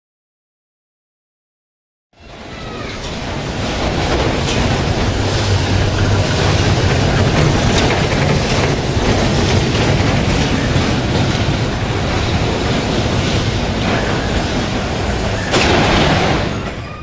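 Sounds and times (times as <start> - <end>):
bumper cars rumbling: 2.2 - 17.0.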